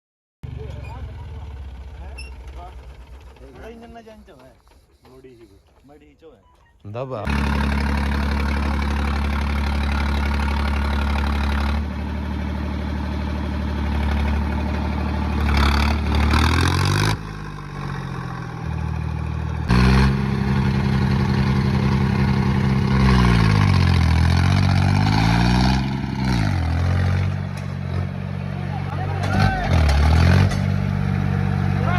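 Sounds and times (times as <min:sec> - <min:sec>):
tractor diesel engine revving: 0:00.4 - 0:05.8, 0:07.0 - 0:31.9.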